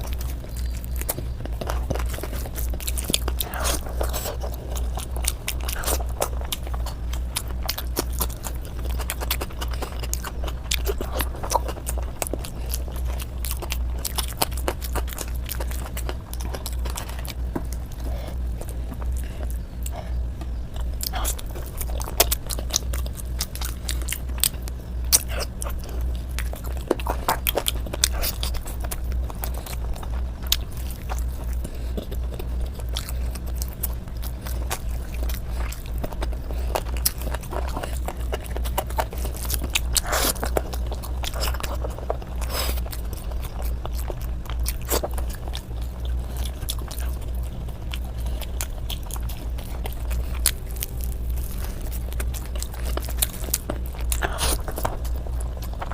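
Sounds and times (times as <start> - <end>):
person chewing food: 0.0 - 55.9
steady low hum: 0.0 - 55.9.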